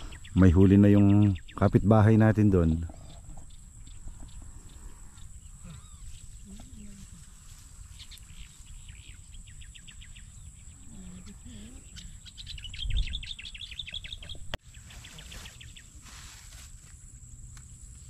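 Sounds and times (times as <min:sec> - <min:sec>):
small bird chirping: 0:00.0 - 0:01.9, 0:03.0 - 0:16.0.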